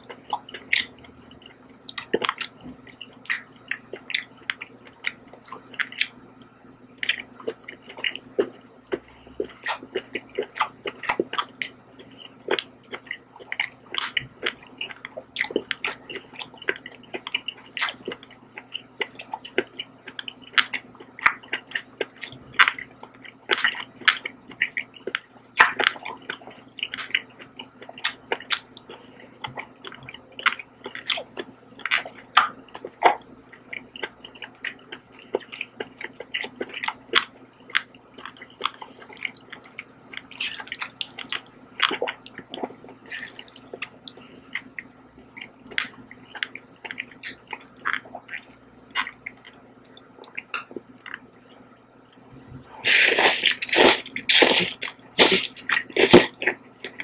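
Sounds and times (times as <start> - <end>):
wet chewing noises: 0.0 - 57.0.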